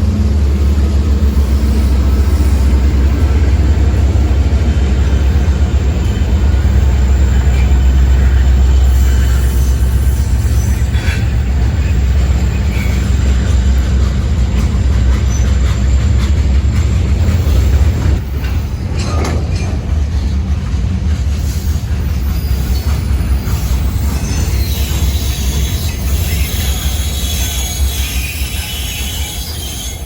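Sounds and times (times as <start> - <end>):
locomotive engine rumble: 0.0 - 30.0.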